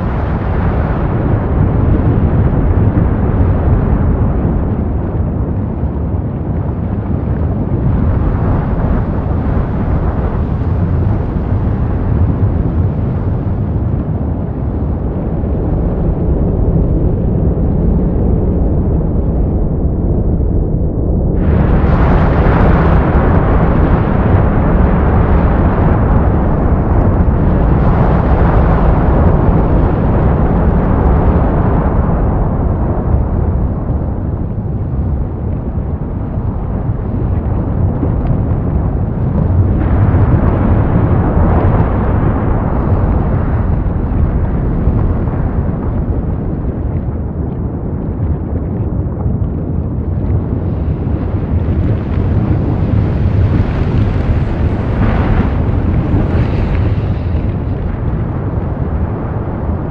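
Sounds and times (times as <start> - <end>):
wind rushing on microphone: 0.0 - 59.9.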